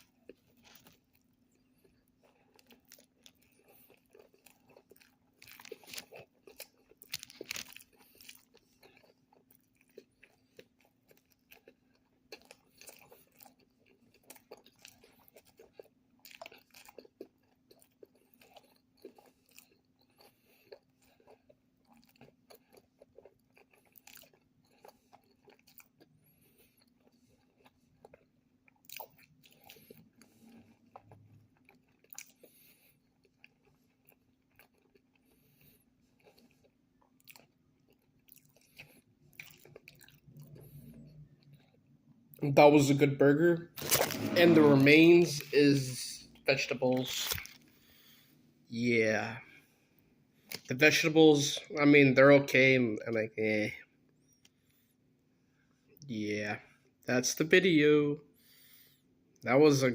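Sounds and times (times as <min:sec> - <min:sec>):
person chewing a hamburger: 0:00.0 - 0:52.3, 0:53.8 - 0:57.1.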